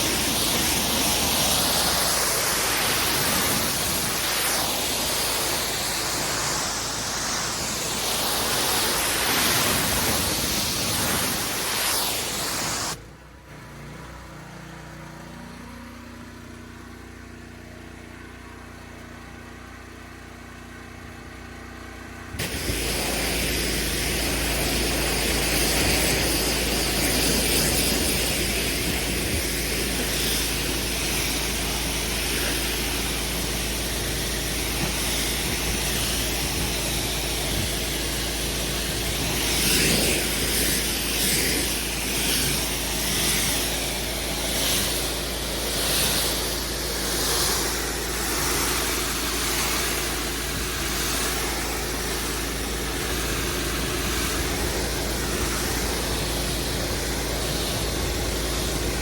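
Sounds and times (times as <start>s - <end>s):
pressure washer spray hiss: 0.0s - 13.0s, 22.4s - 59.0s
pressure washer engine hum: 0.0s - 59.0s.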